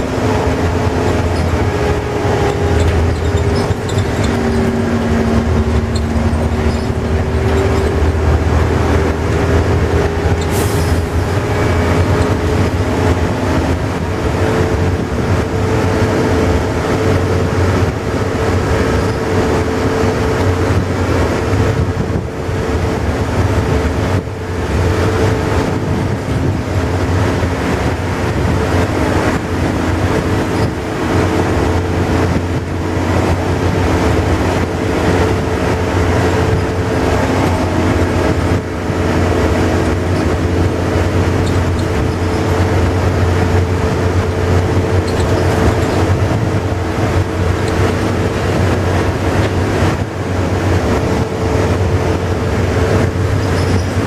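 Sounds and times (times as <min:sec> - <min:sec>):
bus engine drone and whine: 0:00.0 - 0:54.0
road noise: 0:00.0 - 0:54.0.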